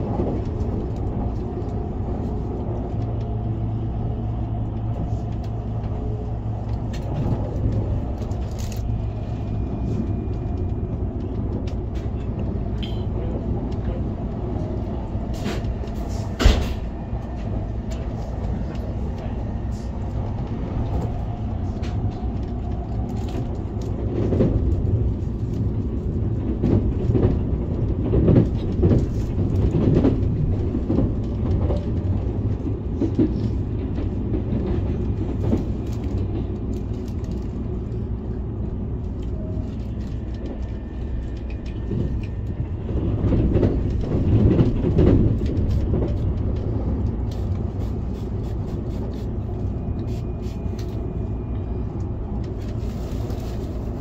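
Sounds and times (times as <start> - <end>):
passing train: 0.0 - 54.0
train wheels rumbling on rails: 0.0 - 54.0.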